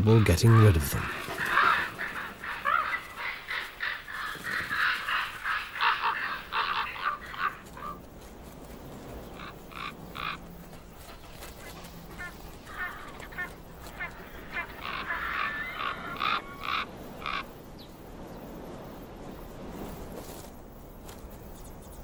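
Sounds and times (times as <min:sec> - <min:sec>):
ravens croaking and calling: 0:00.0 - 0:18.3.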